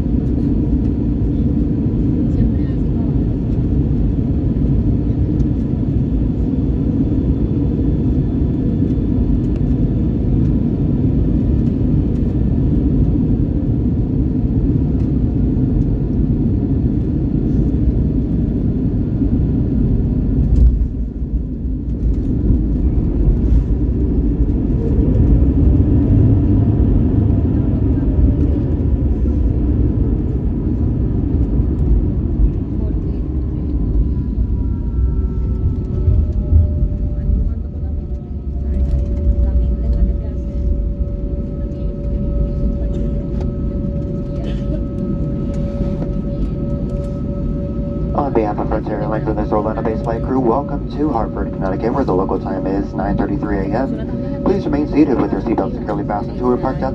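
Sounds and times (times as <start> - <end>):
airplane cabin rumble: 0.0 - 56.9.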